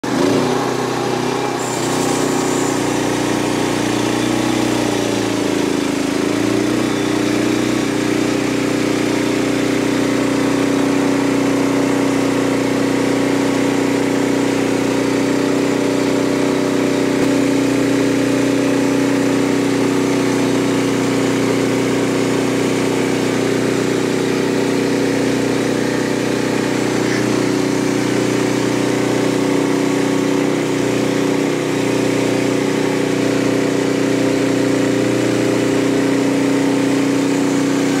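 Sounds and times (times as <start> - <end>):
band sawmill cutting log: 0.0 - 38.0.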